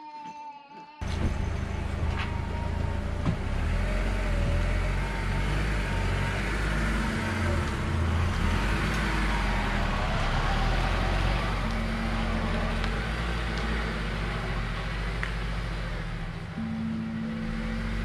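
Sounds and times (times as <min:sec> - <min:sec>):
car engine low rumble: 0:01.0 - 0:18.0
tyre noise: 0:01.0 - 0:18.0.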